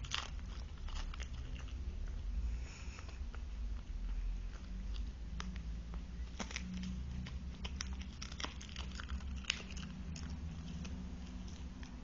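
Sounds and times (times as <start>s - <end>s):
dog crunching a chew: 0.0s - 2.2s, 3.0s - 12.0s.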